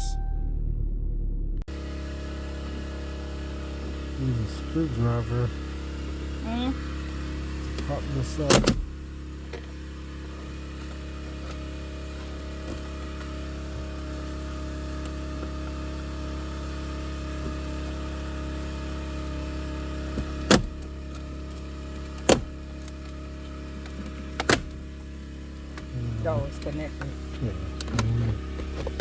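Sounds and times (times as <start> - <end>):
low car cabin hum: 0.0 - 29.0.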